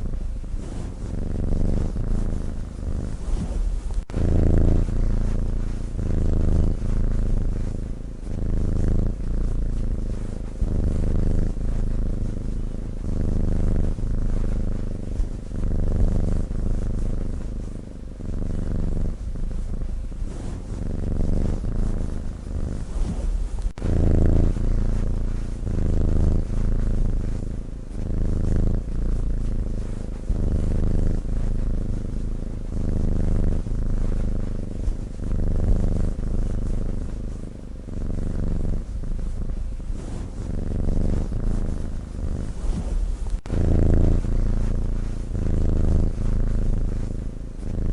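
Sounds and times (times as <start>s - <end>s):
cat snoring: 0.0s - 47.9s.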